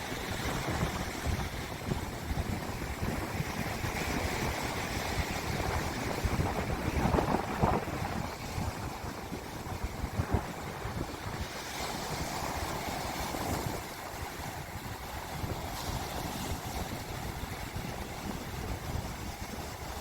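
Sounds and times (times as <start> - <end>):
sea waves washing onto beach: 0.0 - 20.0
wind buffeting microphone: 0.0 - 20.0.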